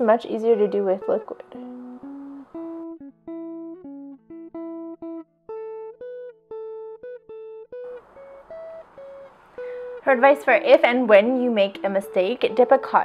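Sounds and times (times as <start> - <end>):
plucked string melody: 0.0 - 13.0.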